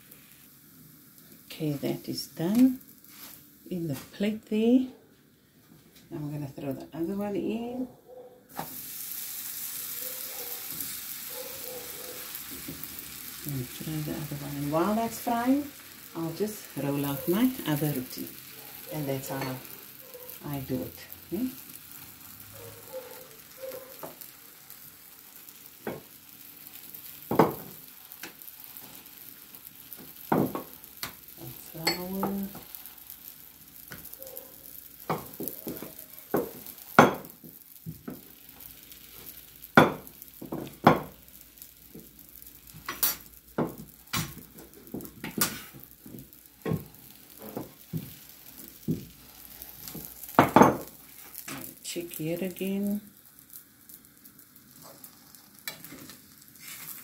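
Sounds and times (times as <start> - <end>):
flatbread sizzling in a pan: 0.0 - 4.5, 8.5 - 57.0.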